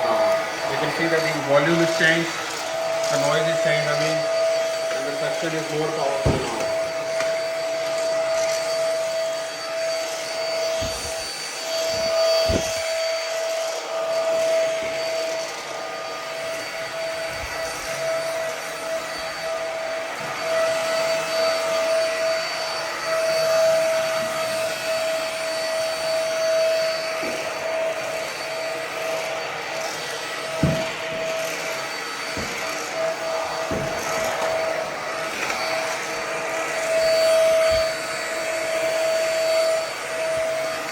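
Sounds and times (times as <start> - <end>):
stick vacuum motor whine: 0.0 - 40.9.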